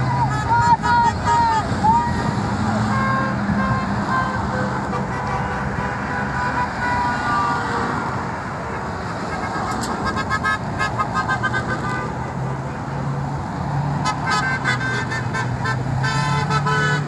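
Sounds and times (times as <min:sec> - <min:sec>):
car horns honking: 0:00.0 - 0:13.0, 0:13.9 - 0:17.0
road traffic noise: 0:00.0 - 0:17.0.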